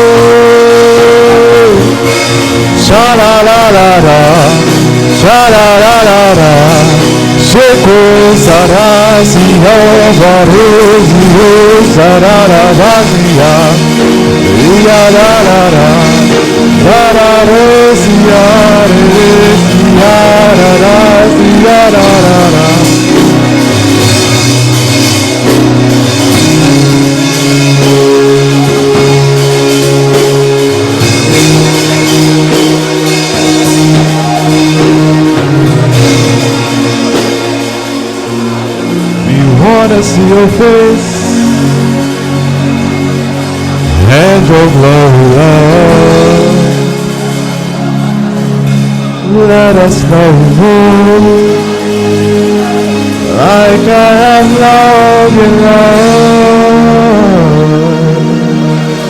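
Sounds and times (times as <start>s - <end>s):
sustained keyboard chords: 0.0s - 59.0s
wavering lead melody: 0.0s - 59.0s.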